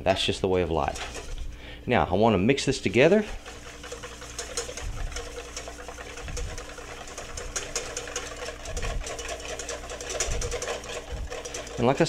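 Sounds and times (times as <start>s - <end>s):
whisk rattling in metal bowl: 0.0s - 1.6s, 2.5s - 12.0s.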